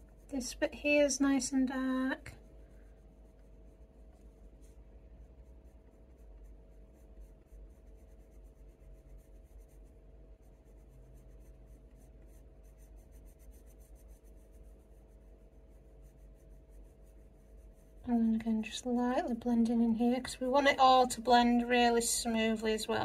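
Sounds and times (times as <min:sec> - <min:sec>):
pencil scratching on paper: 0:00.0 - 0:18.8
low steady hum: 0:00.0 - 0:23.0.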